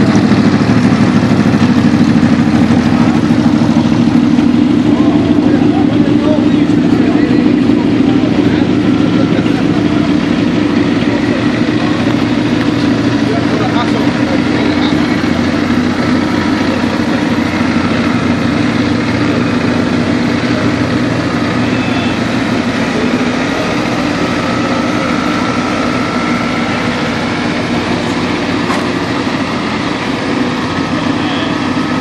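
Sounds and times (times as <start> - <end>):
car engines idling: 0.0 - 32.0.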